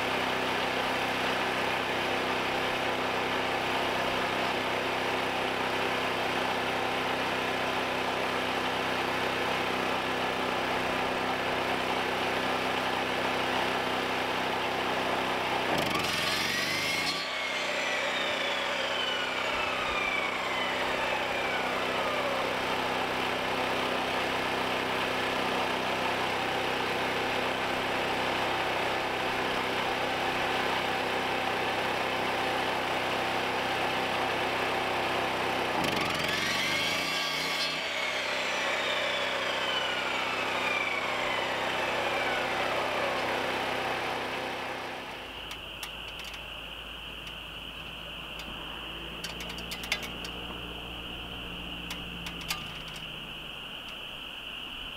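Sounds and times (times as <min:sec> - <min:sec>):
miter saw cutting: 0:00.0 - 0:46.5, 0:47.4 - 0:54.1
engine drone: 0:00.0 - 0:54.9.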